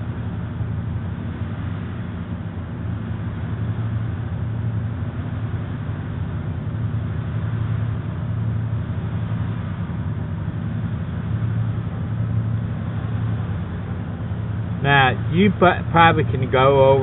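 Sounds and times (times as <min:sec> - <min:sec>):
refrigerator compressor humming: 0:00.0 - 0:17.0.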